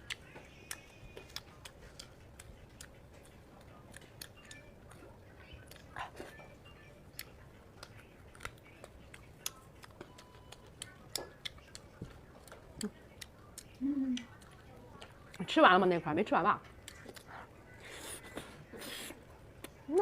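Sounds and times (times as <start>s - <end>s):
wet chewing with mouth smacks: 0.0s - 6.5s, 7.1s - 15.4s, 16.8s - 20.0s.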